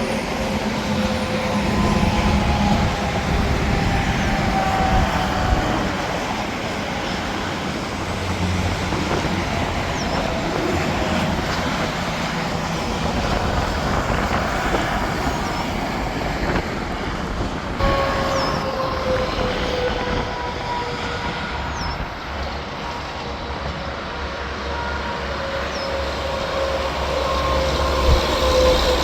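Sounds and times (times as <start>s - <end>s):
highway traffic passing: 0.0s - 29.0s.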